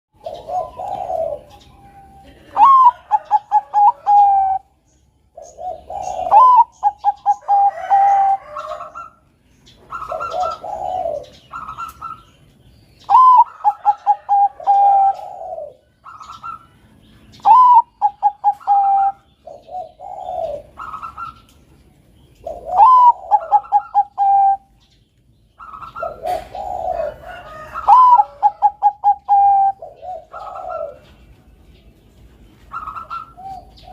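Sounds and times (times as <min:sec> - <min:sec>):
dove cooing: 0:00.2 - 0:21.6, 0:22.3 - 0:24.9, 0:25.5 - 0:31.6, 0:32.6 - 0:33.9.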